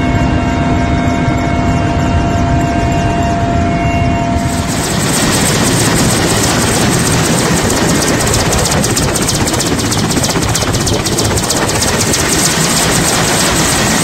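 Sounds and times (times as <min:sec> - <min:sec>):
helicopter engine and rotor chopping: 0:00.0 - 0:14.0.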